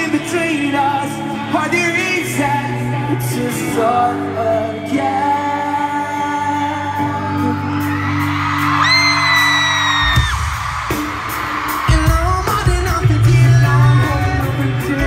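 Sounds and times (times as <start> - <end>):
live pop-rock band with singing: 0.0 - 15.0.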